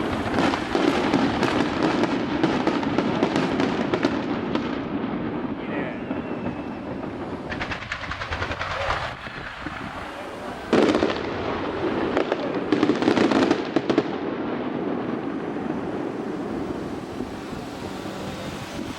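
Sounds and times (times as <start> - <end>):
background hiss: 0.0 - 18.9
firework bang: 0.0 - 18.9
fireworks crackling: 0.0 - 18.9.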